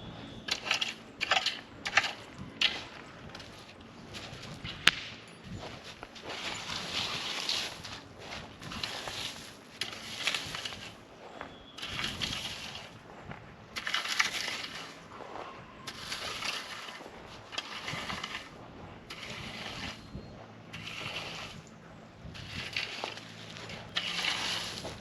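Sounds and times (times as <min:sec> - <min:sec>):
hand tool digging loose ground: 0:00.3 - 0:13.1, 0:13.7 - 0:25.0.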